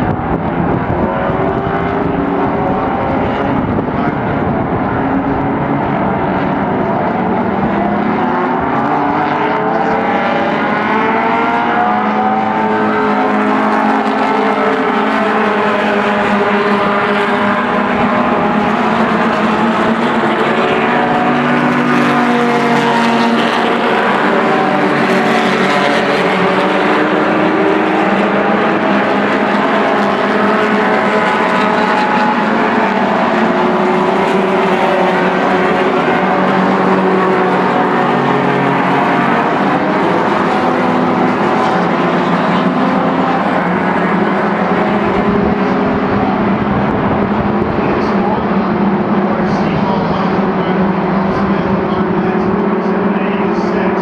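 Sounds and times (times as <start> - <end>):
racing car engines: 0.0 - 54.0.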